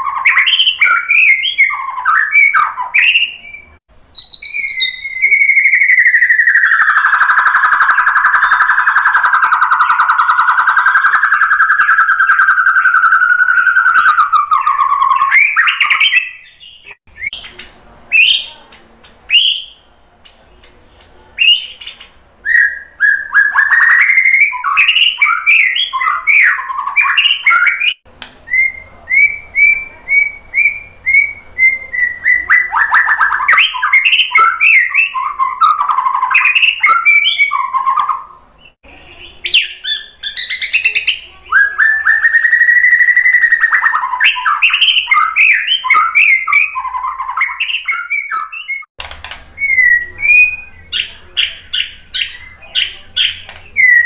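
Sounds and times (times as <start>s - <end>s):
bird singing whistles and chatter: 0.0s - 48.9s, 49.5s - 54.0s.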